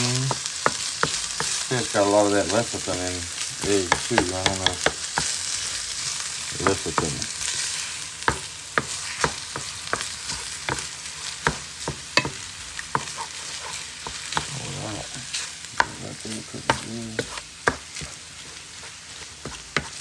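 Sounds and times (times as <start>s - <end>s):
meat and eggs sizzling in pan: 0.0s - 20.0s
utensil scraping a pan: 3.3s - 20.0s.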